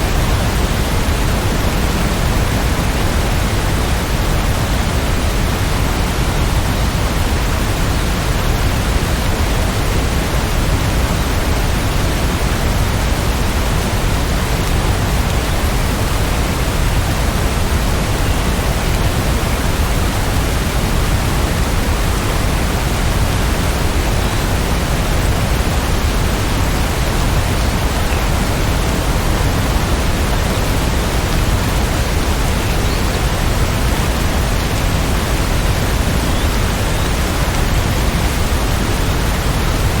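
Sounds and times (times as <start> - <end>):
steady rainfall: 0.0 - 40.0.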